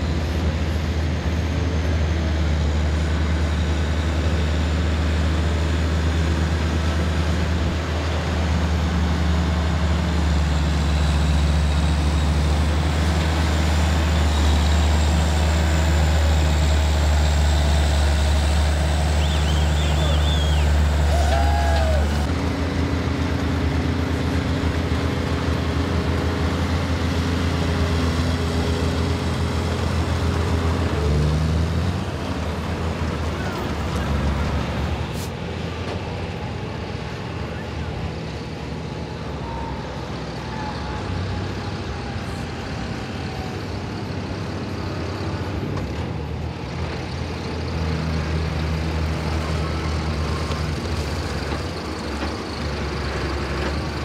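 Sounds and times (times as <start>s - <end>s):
tractor diesel engines passing: 0.0s - 54.0s.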